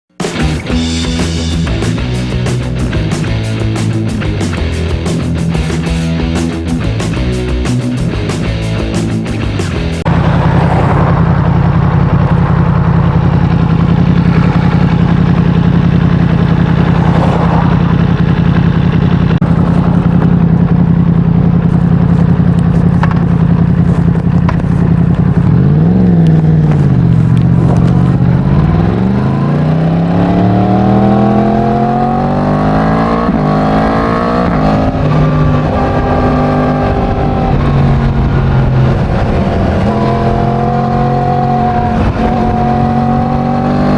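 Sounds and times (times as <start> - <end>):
motorcycle engine revving: 0.1 - 43.9.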